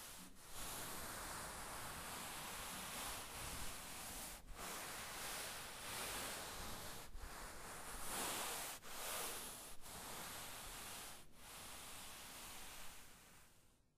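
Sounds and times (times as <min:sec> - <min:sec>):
hand rubbing fabric: 0:00.0 - 0:13.7.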